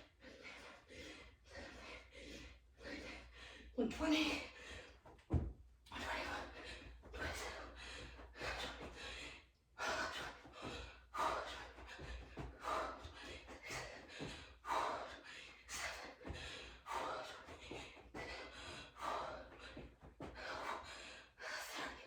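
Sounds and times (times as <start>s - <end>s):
woman breathing hard: 0.0s - 22.0s.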